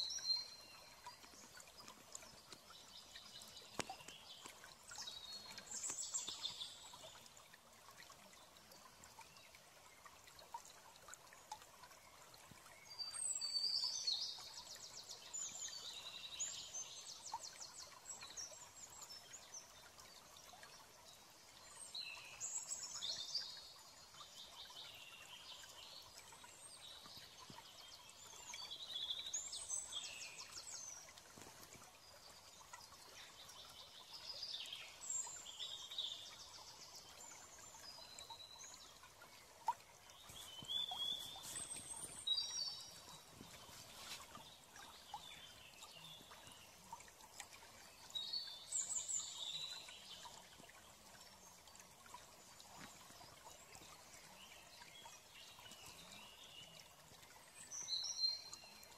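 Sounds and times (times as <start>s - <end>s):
faint bird chirps and twittering: 8.8s - 58.9s.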